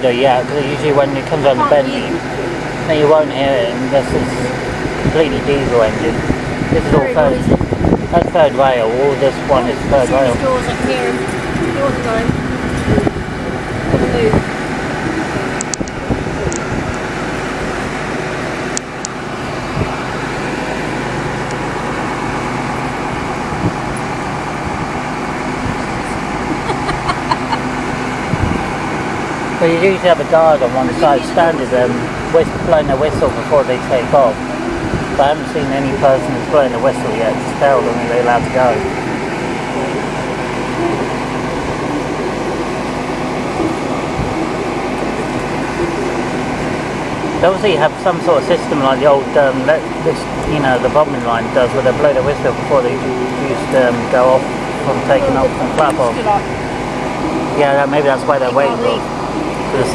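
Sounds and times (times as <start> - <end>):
diesel train engine idling: 0.0 - 59.9.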